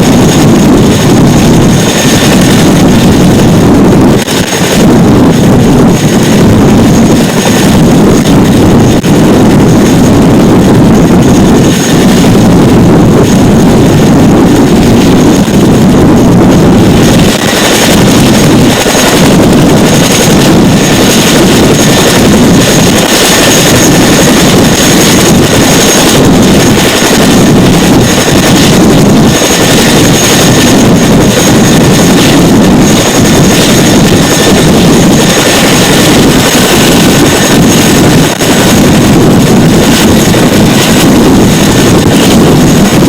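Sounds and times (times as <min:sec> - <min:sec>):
helicopter engines and rotors: 0:00.0 - 0:43.0
rotor wash buffeting microphone: 0:00.0 - 0:43.0.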